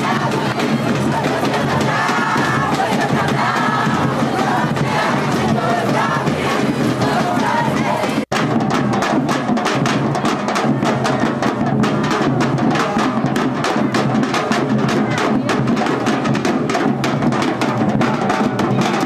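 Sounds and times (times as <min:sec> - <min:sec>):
street drummers fast beat: 0:00.0 - 0:19.0.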